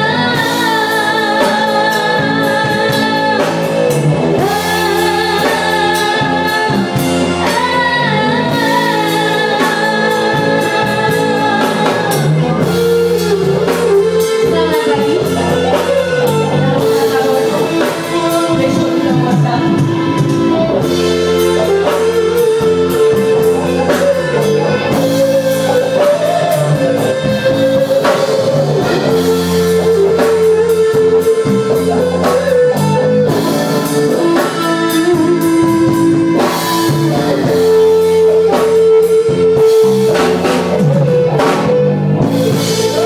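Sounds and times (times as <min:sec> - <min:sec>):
electric guitar long bending notes: 0:00.0 - 0:43.0
rock band playing: 0:00.0 - 0:43.0.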